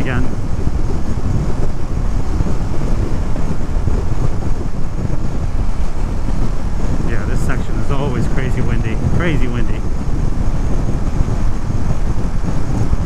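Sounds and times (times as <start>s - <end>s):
motorcycle running: 0.0s - 13.0s
wind buffeting microphone: 0.0s - 13.0s.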